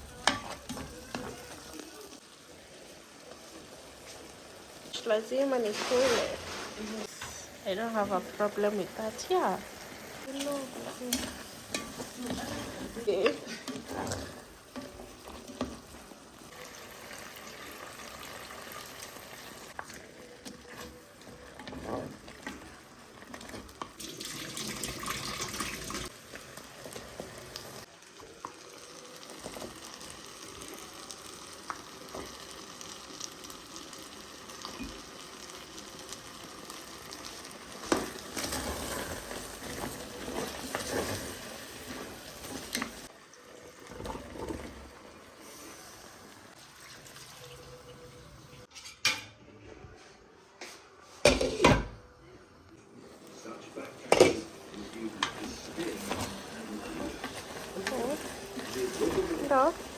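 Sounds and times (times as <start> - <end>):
food frying in a pan: 0.0 - 48.7, 53.0 - 59.9.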